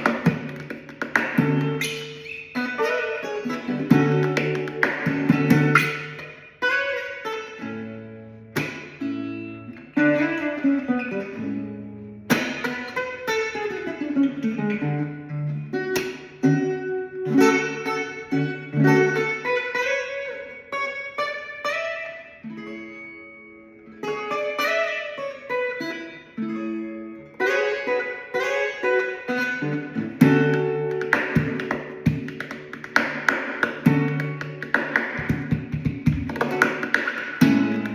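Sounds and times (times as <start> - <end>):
guitar plucked notes and chords: 0.0 - 37.9.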